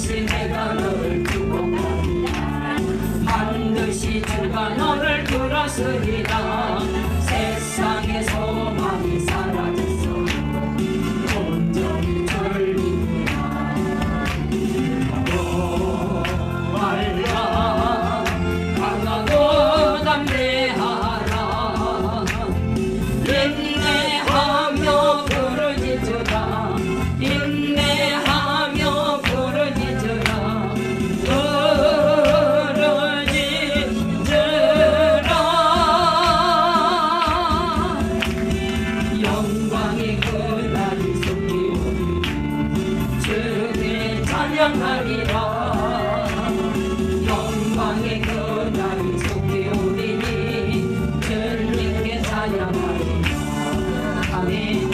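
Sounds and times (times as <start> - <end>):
instrumental backing music: 0.0 - 54.9
person singing gospel song: 0.0 - 54.9.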